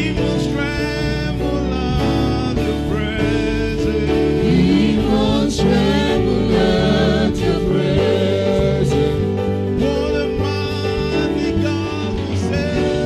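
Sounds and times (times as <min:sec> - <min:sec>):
gospel singers with backing vocals: 0:00.0 - 0:13.0
instrumental accompaniment with bass: 0:00.0 - 0:13.0.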